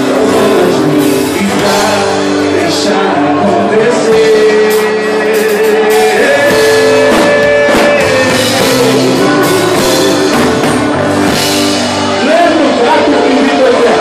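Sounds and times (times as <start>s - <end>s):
drum kit beat: 0.0s - 14.0s
live band instrumental: 0.0s - 14.0s.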